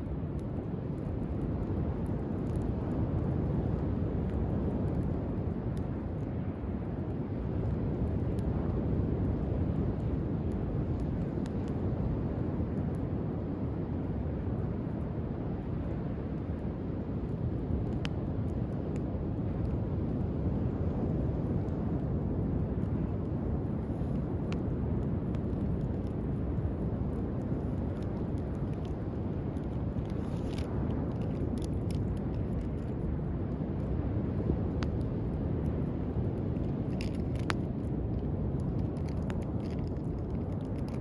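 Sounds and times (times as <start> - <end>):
campfire crackling and popping: 0.0 - 41.0
rumble of surf: 0.0 - 41.0.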